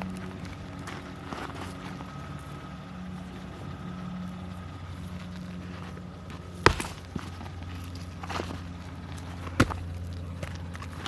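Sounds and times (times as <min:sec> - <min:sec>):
rocks and dirt knocking: 0:00.0 - 0:02.6, 0:03.6 - 0:11.0
car engine idling: 0:00.0 - 0:11.0.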